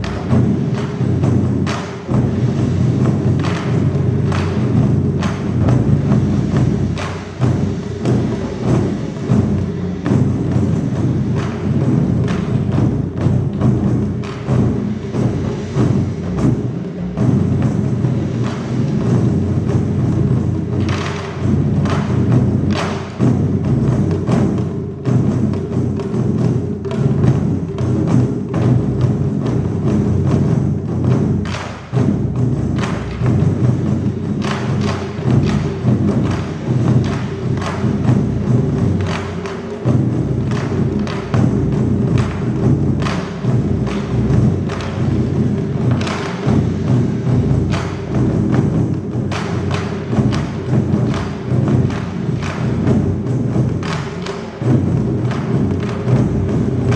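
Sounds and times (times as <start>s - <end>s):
taiko drum ensemble playing: 0.0s - 56.9s.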